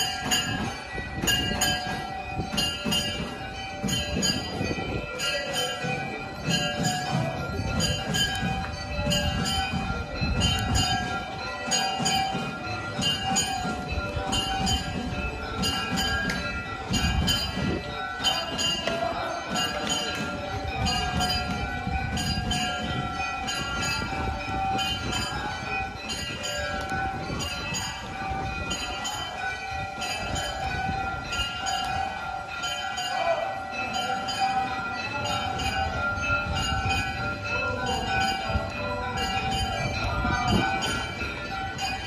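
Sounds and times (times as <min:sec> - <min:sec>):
metal bells ringing: 0:00.0 - 0:42.0.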